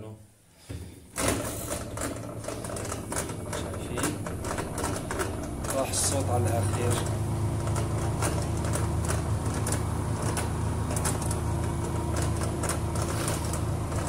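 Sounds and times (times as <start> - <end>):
washing machine drain pump hum: 1.0 - 14.0.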